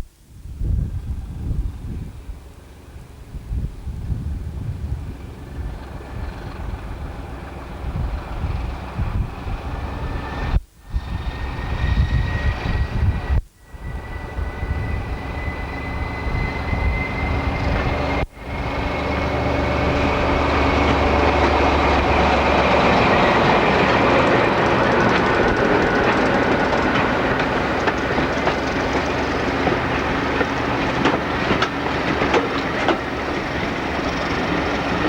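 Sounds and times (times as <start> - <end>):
train rumble: 0.0 - 35.0
diesel train running: 4.0 - 35.0
train whine rising in pitch: 4.8 - 35.0.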